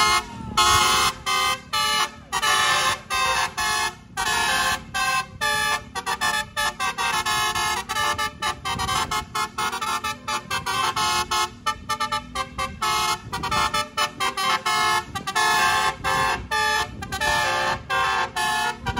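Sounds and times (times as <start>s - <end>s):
bus horn playing a tune: 0.0s - 18.9s.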